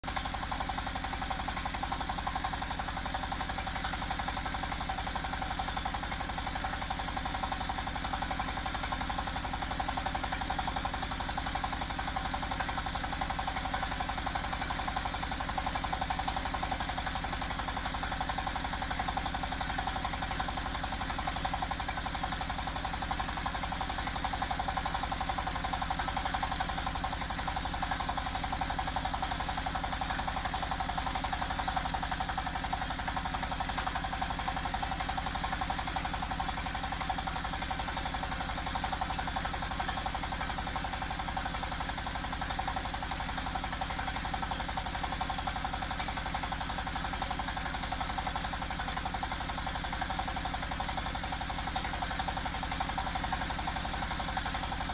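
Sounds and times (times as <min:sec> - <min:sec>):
diesel engine running steadily: 0:00.0 - 0:54.9.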